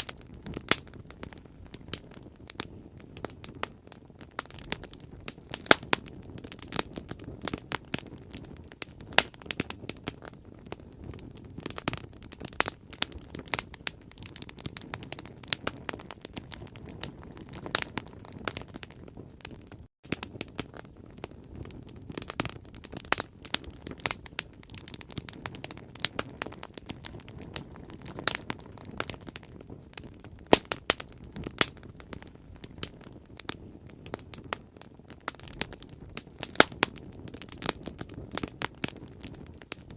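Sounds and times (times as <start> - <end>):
low rush of flame: 0.0 - 39.9
wood crackling and popping: 0.0 - 39.9.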